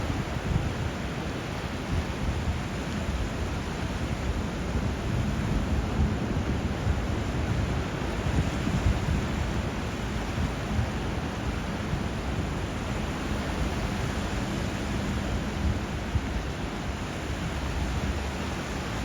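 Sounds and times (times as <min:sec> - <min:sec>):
rushing water and surf: 0:00.0 - 0:19.0.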